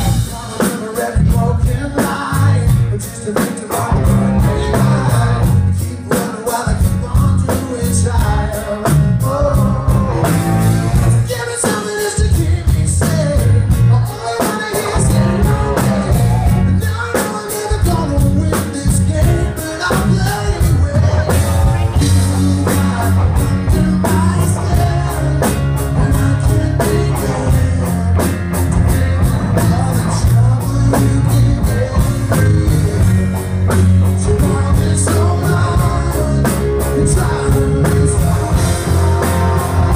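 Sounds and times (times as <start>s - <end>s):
man singing: 0.0s - 39.9s
rhythmic beat with heavy bass: 0.0s - 39.9s.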